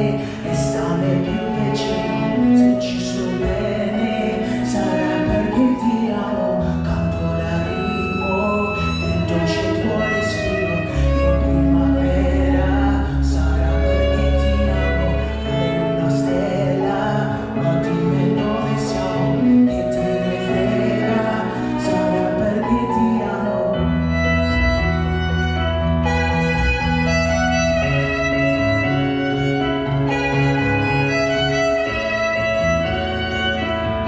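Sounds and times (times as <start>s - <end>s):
piano: 0.0s - 34.0s
sustained low bass notes: 0.0s - 34.0s
violin: 0.0s - 34.0s.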